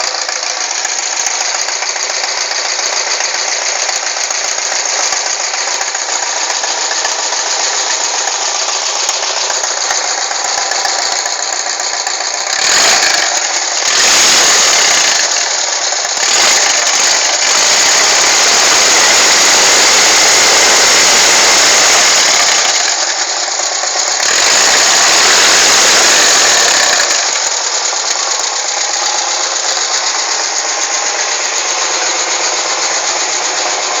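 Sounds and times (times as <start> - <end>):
van engine idling and revving: 0.0 - 34.0.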